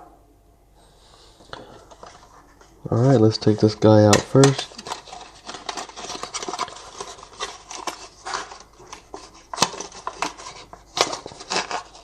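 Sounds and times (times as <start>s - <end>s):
hands handling packaging: 1.5s - 12.0s.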